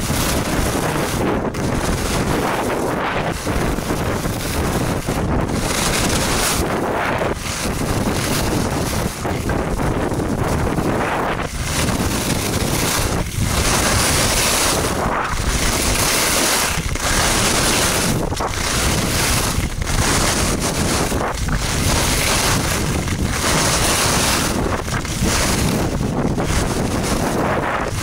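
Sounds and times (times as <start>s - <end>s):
skis scraping on snow: 0.0s - 28.0s
wind rushing over microphone: 0.0s - 28.0s.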